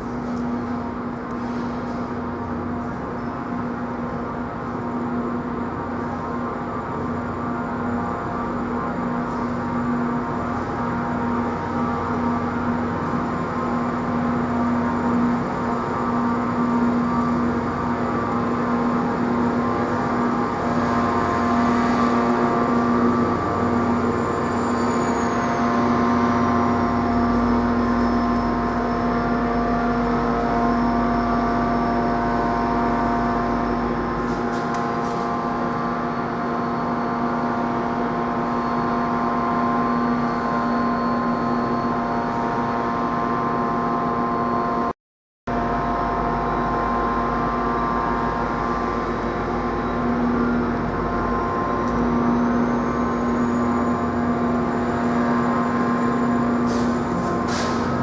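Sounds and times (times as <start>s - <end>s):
high-pitched train whine: 0.0s - 44.9s, 45.5s - 58.0s
train hum: 0.0s - 44.9s, 45.5s - 58.0s.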